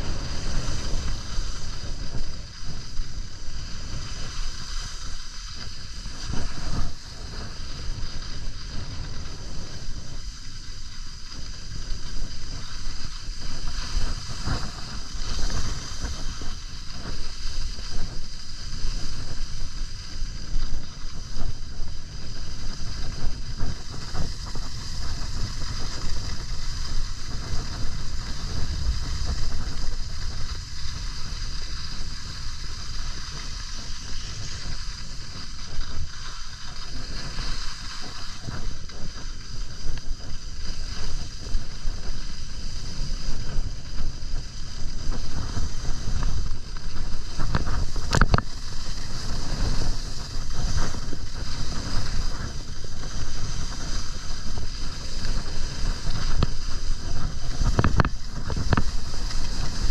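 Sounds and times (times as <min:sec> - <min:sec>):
skis sliding over snow: 0:00.0 - 0:59.9
wind buffeting microphone: 0:00.0 - 0:59.9.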